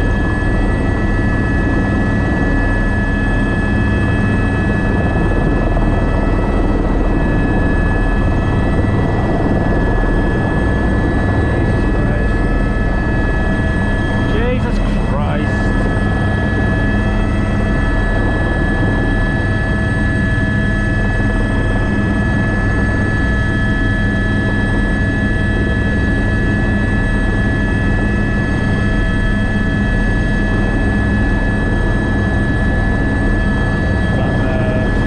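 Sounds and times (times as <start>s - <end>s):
helicopter rotor drone: 0.0s - 35.0s
high turbine whine: 0.0s - 35.0s.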